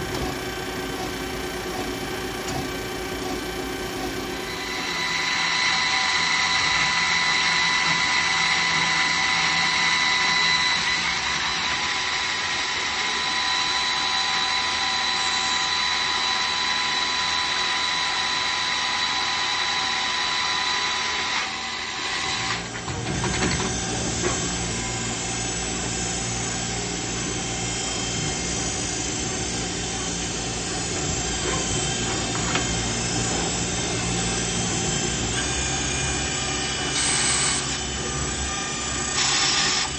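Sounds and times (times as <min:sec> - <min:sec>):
lathe running with high whine: 0:00.0 - 0:39.9.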